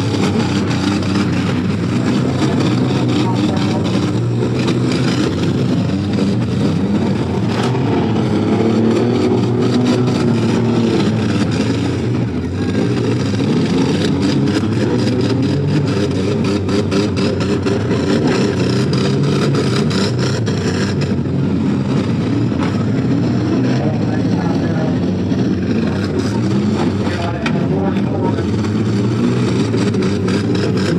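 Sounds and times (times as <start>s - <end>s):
car engines revving: 0.0s - 30.9s.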